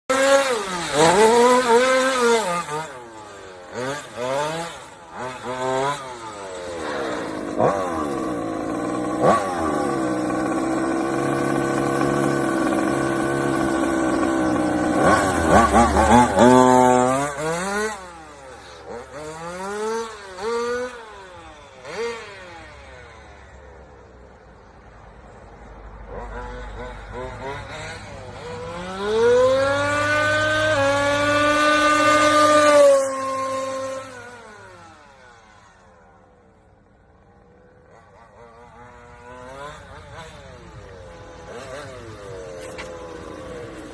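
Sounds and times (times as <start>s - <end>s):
radio-controlled car engine revving: 0.0s - 43.9s.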